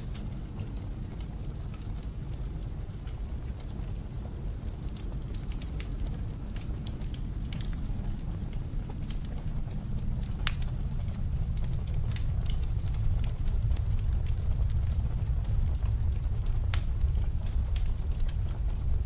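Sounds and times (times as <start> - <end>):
blizzard wind rumbling: 0.0 - 19.0
wood fire crackling and popping: 0.0 - 19.0.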